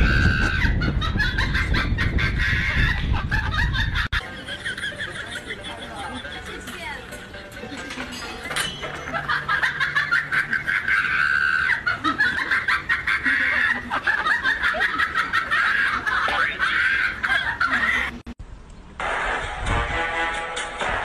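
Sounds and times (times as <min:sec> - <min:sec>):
sustained laughter: 0:00.0 - 0:06.8, 0:07.6 - 0:18.2.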